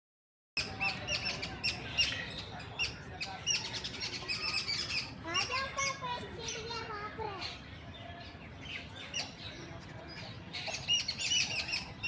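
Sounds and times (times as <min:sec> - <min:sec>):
low city rumble: 0:00.6 - 0:12.0
small birds chirping: 0:00.6 - 0:12.0.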